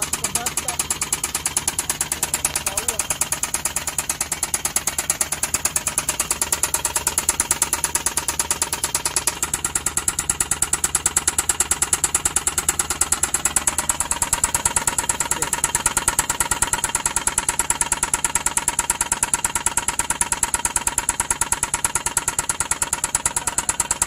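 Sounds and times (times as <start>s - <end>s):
engine idling with rapid knock: 0.0s - 24.0s.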